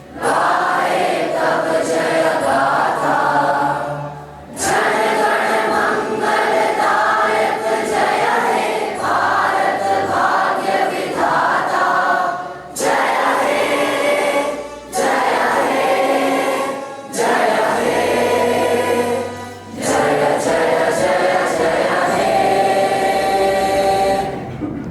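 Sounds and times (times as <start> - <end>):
choir singing: 0.0 - 24.6.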